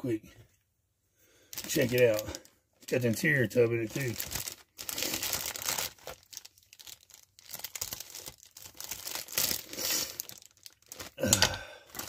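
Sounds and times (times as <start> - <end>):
plastic bag crinkling and tearing: 1.5 - 12.0.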